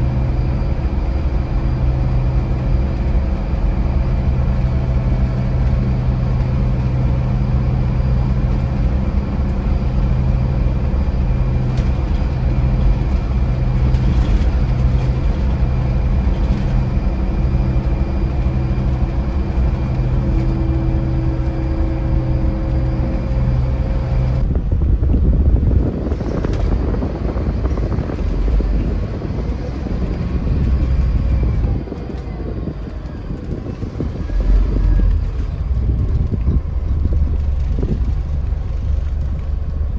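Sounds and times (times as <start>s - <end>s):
diesel coach engine droning: 0.0s - 39.9s
vehicle noise: 0.0s - 39.9s.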